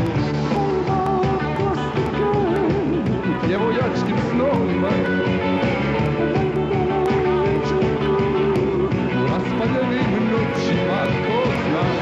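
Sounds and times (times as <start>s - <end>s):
drums: 0.0s - 12.0s
rock band playing live: 0.0s - 12.0s.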